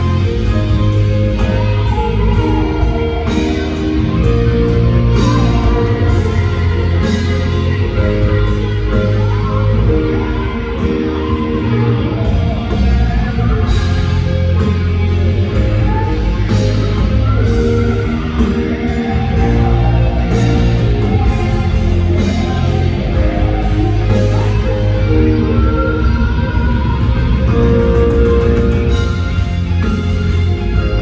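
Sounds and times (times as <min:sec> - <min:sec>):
distorted electric guitar: 0:00.0 - 0:31.0
drums: 0:00.0 - 0:31.0
heavy bass: 0:00.0 - 0:31.0.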